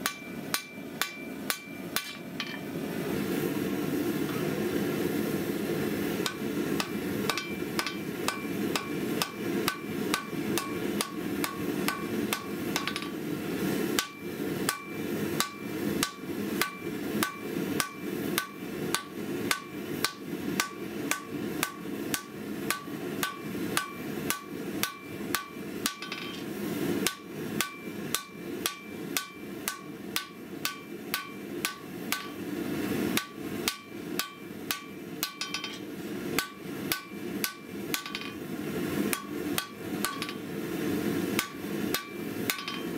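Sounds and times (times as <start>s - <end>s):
hammer striking steel on anvil: 0.0s - 2.7s, 6.2s - 13.2s, 14.0s - 32.5s, 33.1s - 38.5s, 39.1s - 40.6s, 41.4s - 42.9s.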